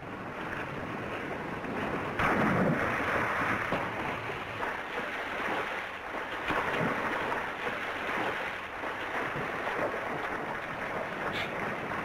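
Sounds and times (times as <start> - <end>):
water splashing from swimming: 0.0 - 12.0.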